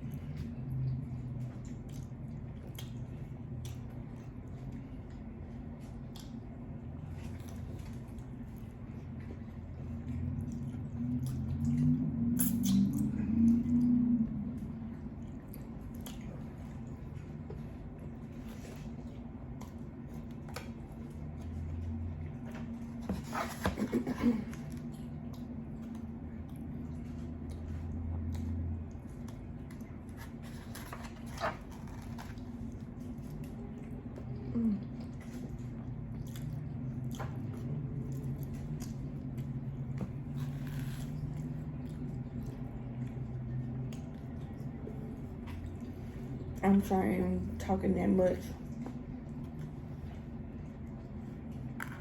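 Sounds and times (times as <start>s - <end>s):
chewing noodles: 0.0s - 23.0s, 24.5s - 46.6s, 48.6s - 52.0s
steady low hum: 0.0s - 52.0s.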